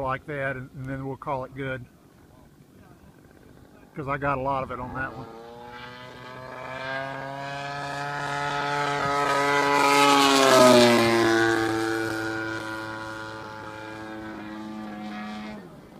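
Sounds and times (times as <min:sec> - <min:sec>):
model plane engine flying past: 0:03.1 - 0:15.9.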